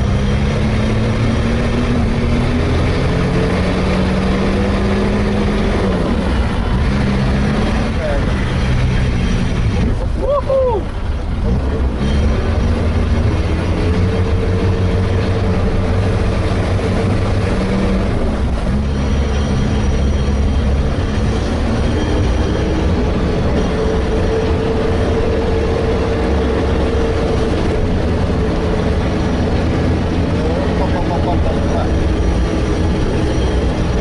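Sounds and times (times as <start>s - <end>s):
diesel engine droning: 0.0s - 34.0s.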